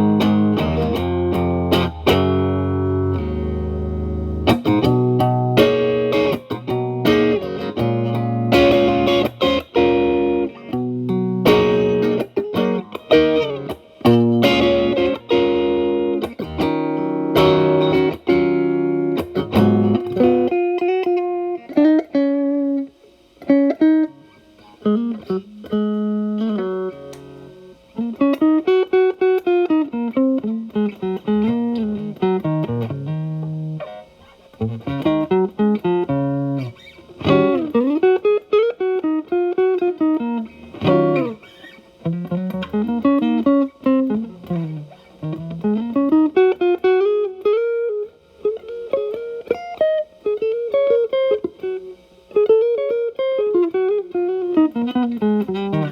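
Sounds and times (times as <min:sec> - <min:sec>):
overdriven electric guitar: 0:00.0 - 0:55.9.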